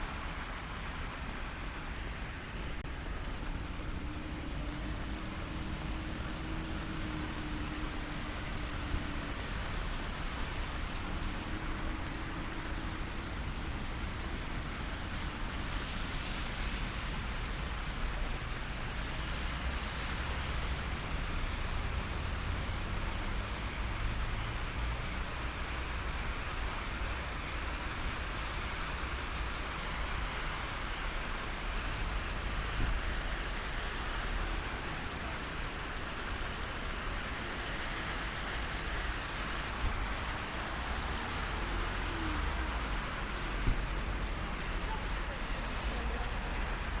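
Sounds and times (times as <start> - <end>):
low traffic rumble: 0.0 - 47.0
steady rain on street: 0.0 - 47.0.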